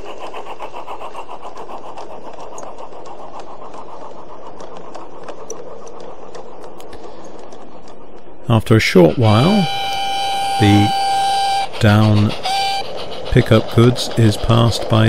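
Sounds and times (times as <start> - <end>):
model locomotive mechanical chatter: 0.0 - 15.0.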